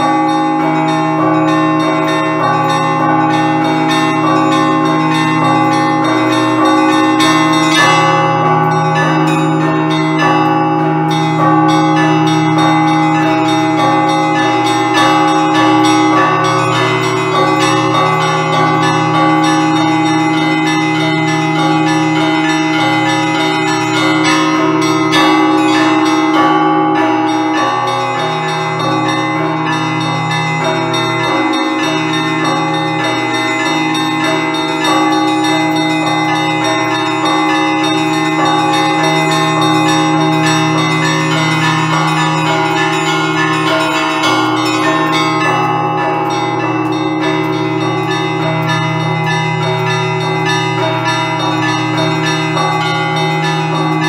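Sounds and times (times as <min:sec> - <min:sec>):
large bells humming: 0:00.0 - 0:54.0.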